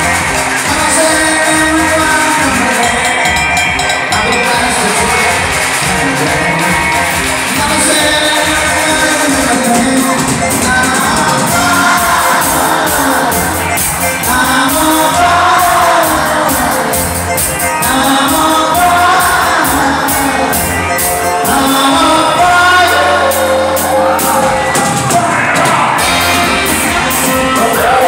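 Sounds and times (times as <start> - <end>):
keyboard: 0.0 - 28.0
live dance band playing: 0.0 - 28.0
person singing: 0.0 - 28.0.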